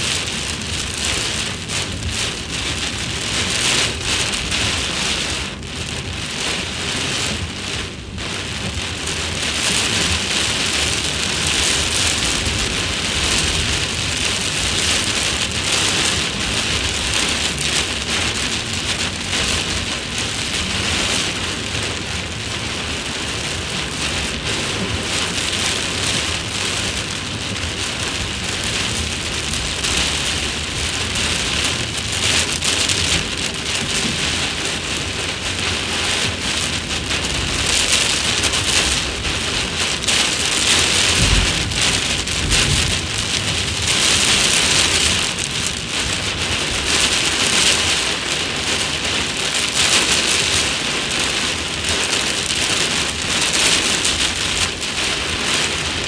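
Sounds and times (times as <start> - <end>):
heavy rain pounding on car: 0.0 - 56.0.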